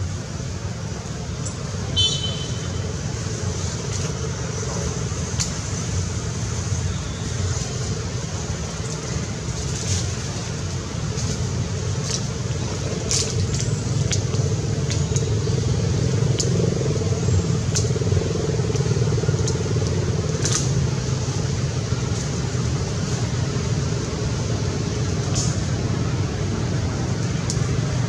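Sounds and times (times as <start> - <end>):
low mechanical drone: 0.0 - 28.0.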